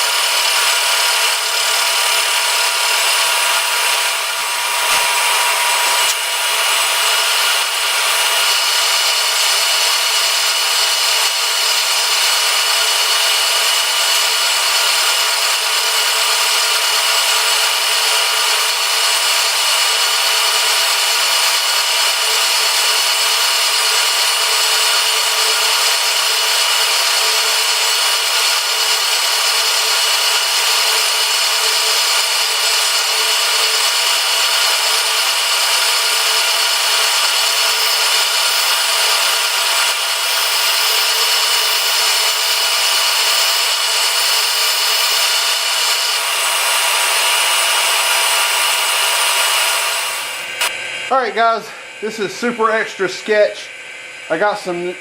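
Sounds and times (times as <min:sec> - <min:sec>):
milling machine cutting metal: 0:00.0 - 0:50.7.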